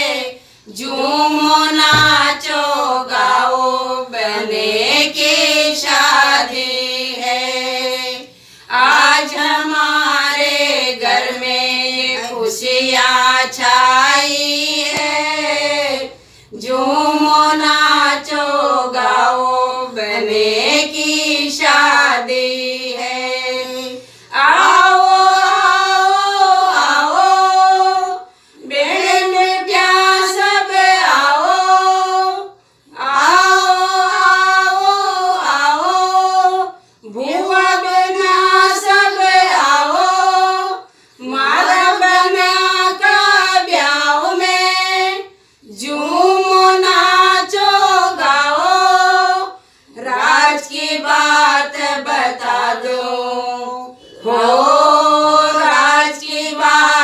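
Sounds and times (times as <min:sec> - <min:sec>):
women singing a folk song: 0:00.0 - 0:57.0.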